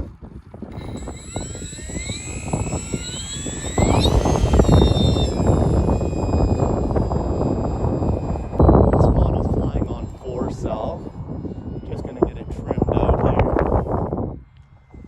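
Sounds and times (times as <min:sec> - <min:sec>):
wind buffeting microphone: 0:00.0 - 0:15.0
electric motor whining: 0:00.7 - 0:15.0.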